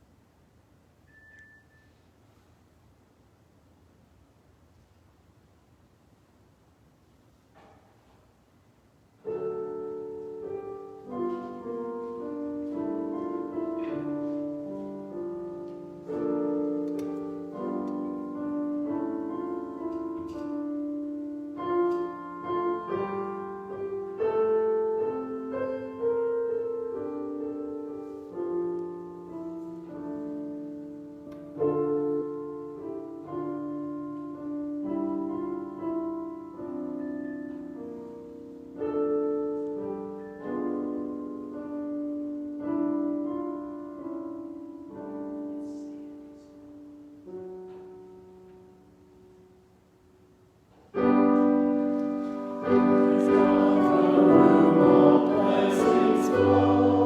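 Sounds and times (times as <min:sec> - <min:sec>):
slow solo piano piece: 0:09.1 - 0:57.0.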